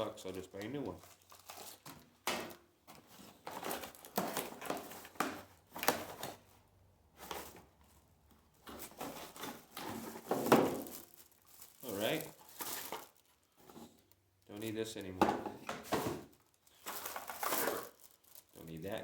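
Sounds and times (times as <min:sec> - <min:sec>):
cardboard rustling and scraping: 0:00.3 - 0:14.1, 0:15.1 - 0:18.2.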